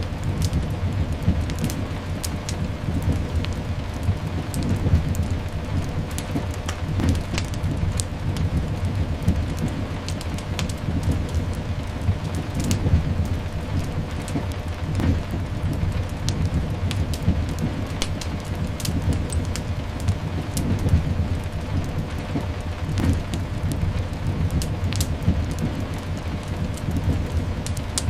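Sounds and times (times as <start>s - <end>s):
low rumble: 0.0s - 28.0s
sharp crackles and pops: 0.0s - 28.0s
steady rain: 0.0s - 28.0s.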